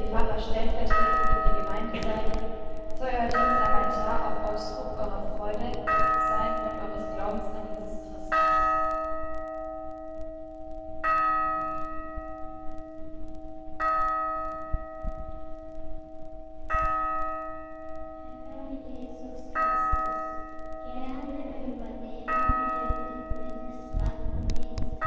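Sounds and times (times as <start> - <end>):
church bell tolling: 0.0 - 25.0
steady low hum: 0.0 - 25.0.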